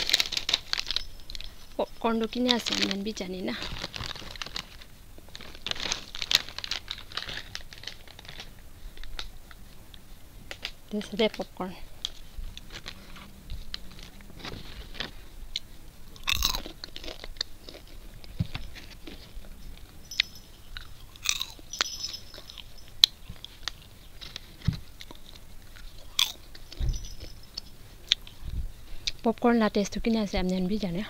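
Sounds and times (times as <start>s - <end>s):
person chewing crunchy popcorn: 0.0s - 10.9s, 11.9s - 21.8s, 22.4s - 26.8s, 27.5s - 29.2s.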